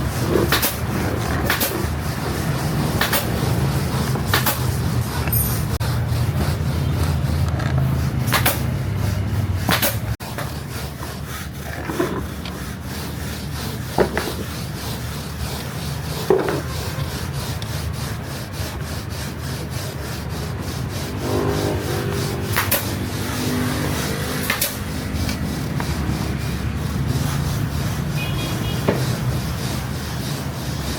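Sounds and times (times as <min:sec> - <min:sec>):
hand tool scraping workpiece: 0:00.0 - 0:30.9.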